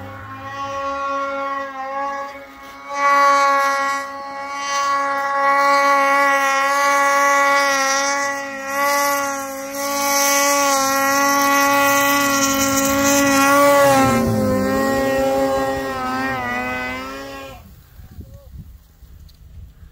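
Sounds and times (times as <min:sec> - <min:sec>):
snowmobile engine revving high: 0:00.0 - 0:17.8.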